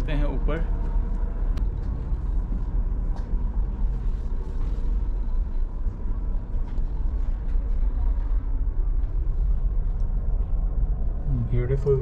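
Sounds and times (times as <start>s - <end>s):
ship engine rumble: 0.0s - 12.0s.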